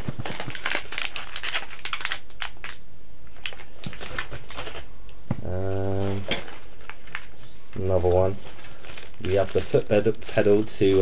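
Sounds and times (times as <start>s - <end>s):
packaging crinkling and rustling: 0.0s - 4.9s, 5.8s - 11.0s.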